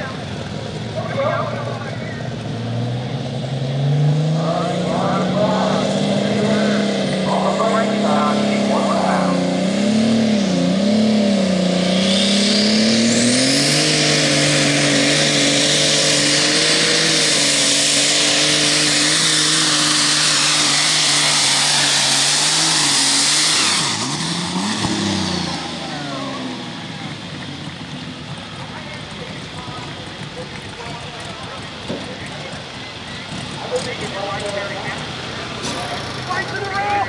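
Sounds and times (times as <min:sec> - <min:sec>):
high turbo whine: 0:00.0 - 0:37.0
tractor engine running flat out: 0:04.5 - 0:37.0.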